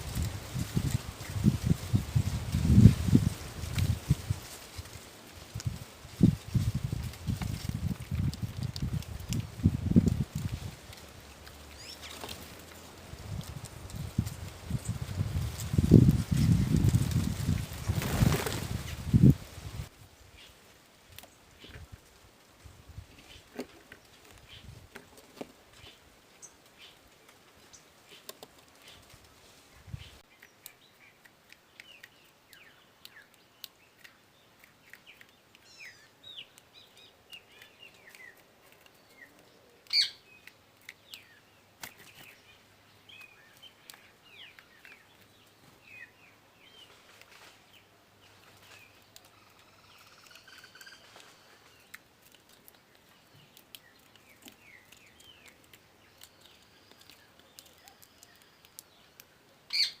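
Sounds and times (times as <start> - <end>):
small songbirds chirping: 0.1 - 60.0.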